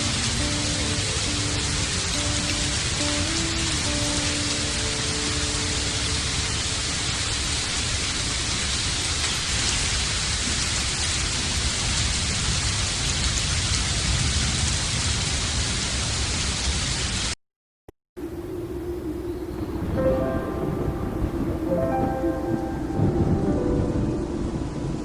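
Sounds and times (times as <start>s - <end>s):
steady rain hiss: 0.0s - 17.4s, 18.2s - 25.0s.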